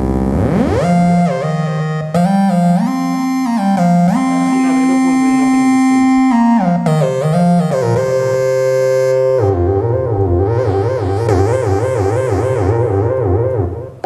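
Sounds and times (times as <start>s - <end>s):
synthesizer lead with glide: 0.0s - 14.0s.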